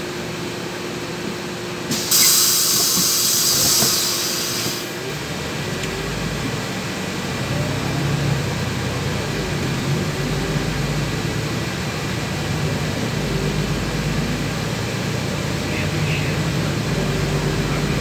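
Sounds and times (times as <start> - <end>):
bus engine hum: 0.0 - 18.0
road noise: 1.6 - 18.0.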